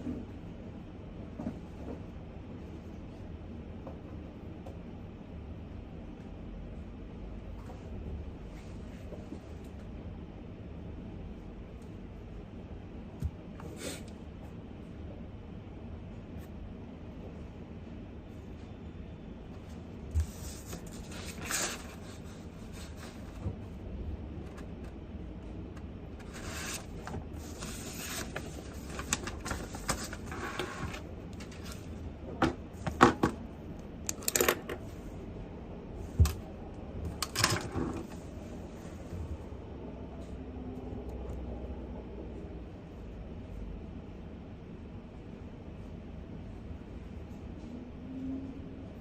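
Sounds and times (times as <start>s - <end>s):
steady room hiss: 0.0s - 49.0s.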